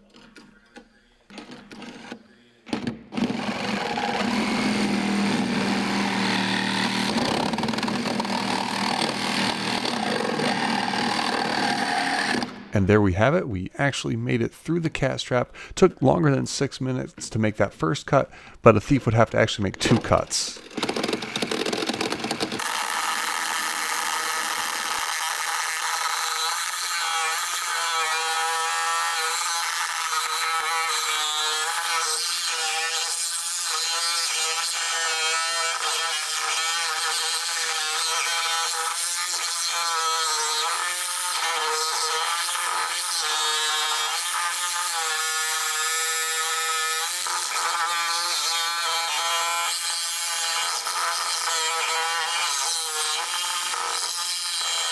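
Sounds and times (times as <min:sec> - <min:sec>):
reciprocating saw cutting steel: 0:03.4 - 0:12.7, 0:19.8 - 0:54.9.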